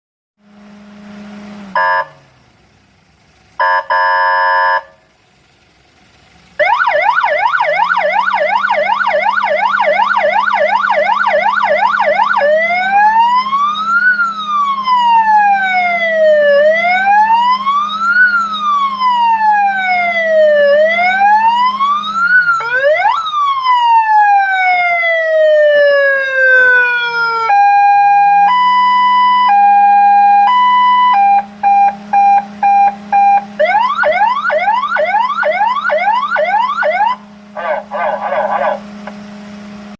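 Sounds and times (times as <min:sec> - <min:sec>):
electronic siren: 0:01.7 - 0:02.3, 0:06.6 - 0:39.2.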